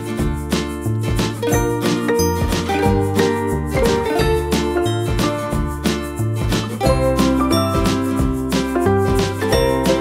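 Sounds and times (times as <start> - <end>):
light background music with beat: 0.0 - 10.0.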